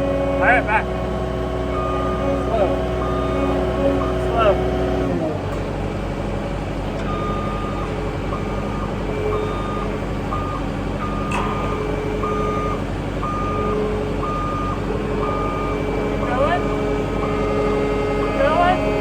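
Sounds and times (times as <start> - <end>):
engine running: 0.0 - 19.0
backup alarm beeping: 0.3 - 4.9, 7.0 - 19.0.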